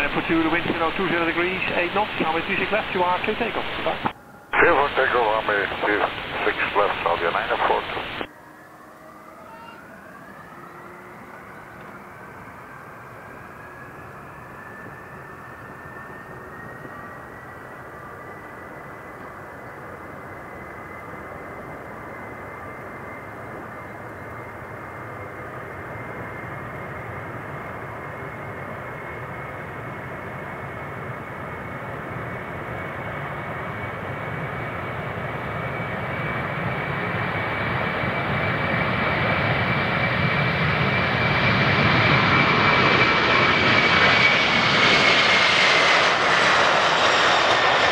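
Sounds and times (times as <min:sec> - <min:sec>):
jet engine whine: 0:00.0 - 0:47.9
jet engines roaring at takeoff: 0:00.0 - 0:47.9.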